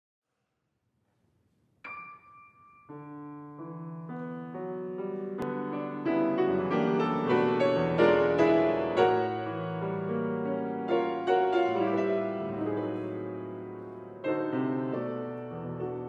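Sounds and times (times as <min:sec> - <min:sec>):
grand piano playing: 0:01.9 - 0:16.0.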